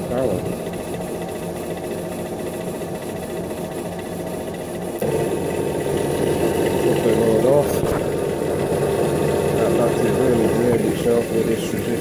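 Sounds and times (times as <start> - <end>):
bench drill turning generator hum: 0.0 - 12.0.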